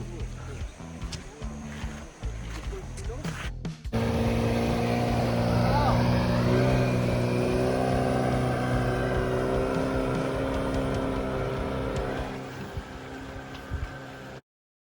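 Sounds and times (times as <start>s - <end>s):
outboard motor running: 0.0s - 3.4s, 4.0s - 14.4s.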